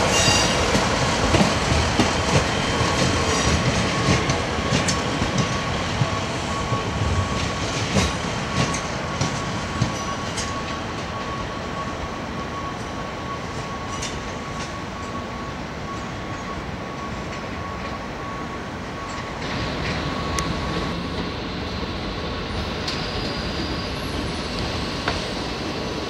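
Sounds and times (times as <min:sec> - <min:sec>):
diesel train pulling away whine: 0:00.0 - 0:26.0
train wheels rushing on rails: 0:00.0 - 0:26.0.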